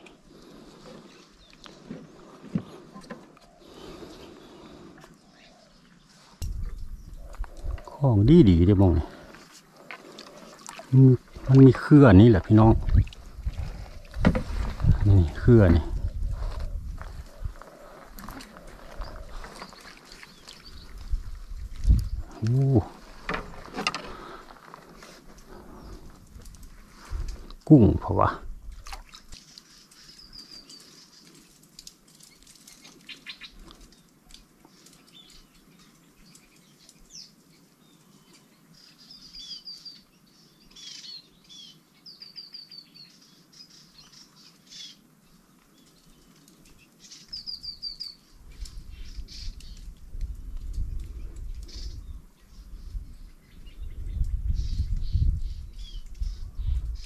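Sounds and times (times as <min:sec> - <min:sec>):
songbirds trilling: 0:00.0 - 0:57.0.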